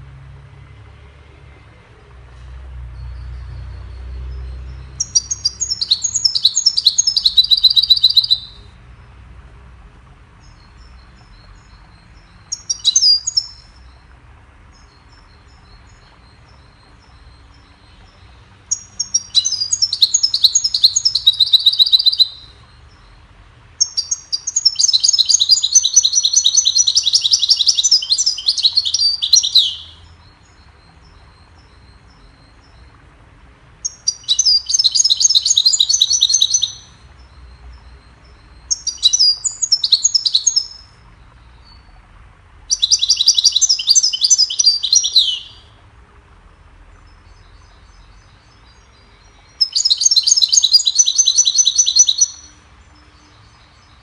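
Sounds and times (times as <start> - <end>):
finch twittering song: 1.6 - 9.2, 9.9 - 45.8, 46.4 - 54.0.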